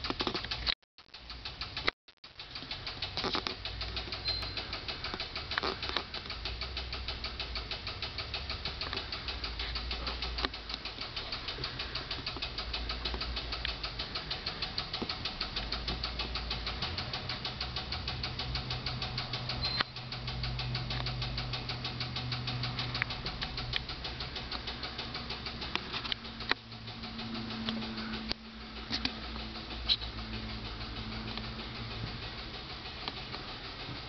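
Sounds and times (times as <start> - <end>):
fine even ticking: 0.0 - 34.0
scattered clicks: 0.0 - 34.0
pickup engine idling: 1.3 - 34.0.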